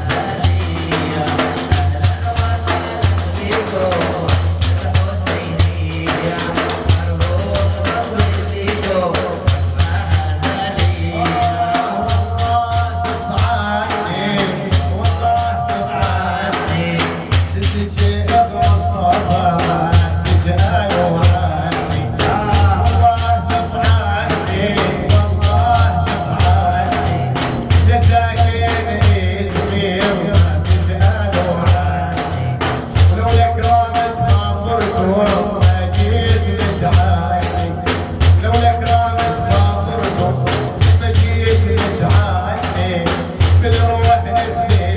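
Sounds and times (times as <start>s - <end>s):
man singing praise song: 0.0s - 44.9s
pulsing percussion beat: 0.0s - 44.9s.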